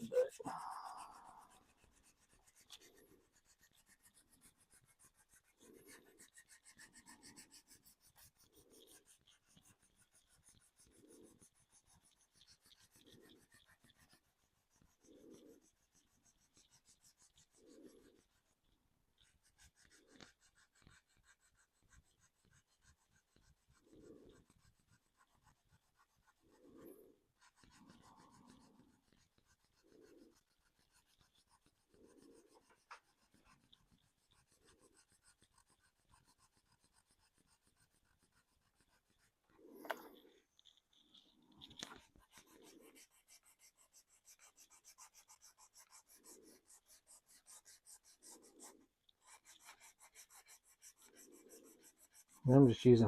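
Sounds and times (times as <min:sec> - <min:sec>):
sandpaper scratching on plastic: 0:00.0 - 0:18.6, 0:19.2 - 0:53.0.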